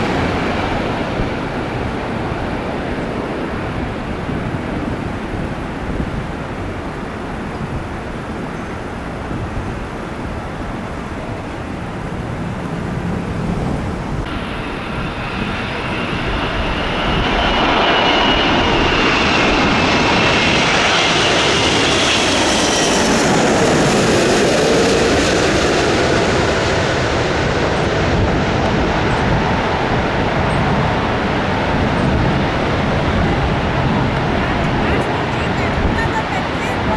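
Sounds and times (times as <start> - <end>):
high jet engine whine: 0.0 - 36.9
jet engines rushing: 0.0 - 36.9.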